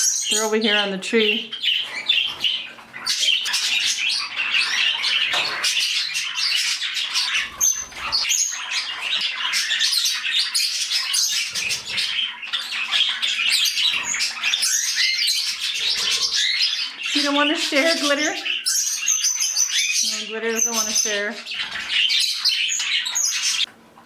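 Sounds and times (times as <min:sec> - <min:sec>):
birds chattering and squawking: 0:00.0 - 0:24.0.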